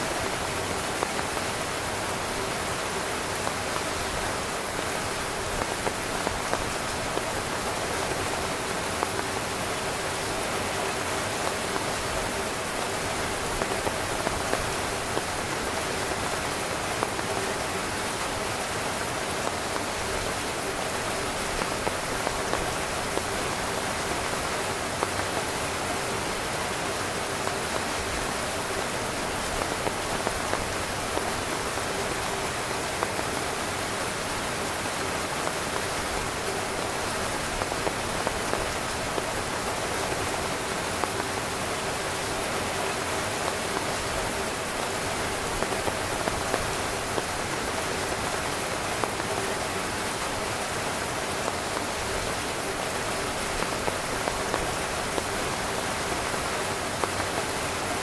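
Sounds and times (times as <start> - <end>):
heavy rain on a tent: 0.0 - 58.0.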